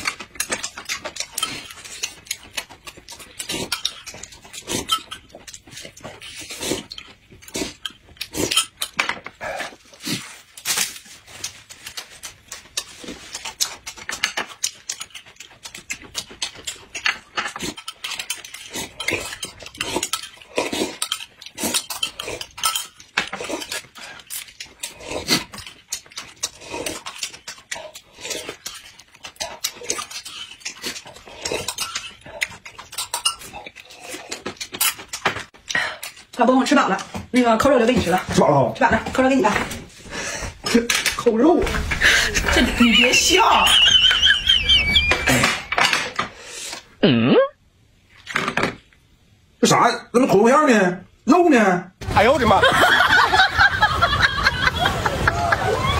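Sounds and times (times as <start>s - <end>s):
people slurping and chewing: 0.0s - 47.5s.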